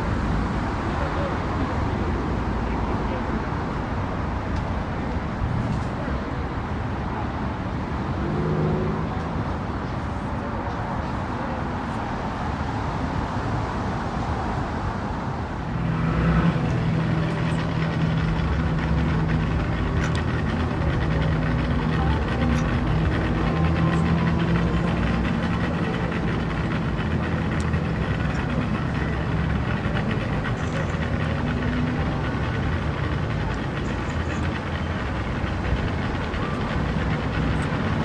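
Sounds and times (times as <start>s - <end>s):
close engine low drone: 0.0s - 38.0s
vehicle engines running: 0.0s - 38.0s.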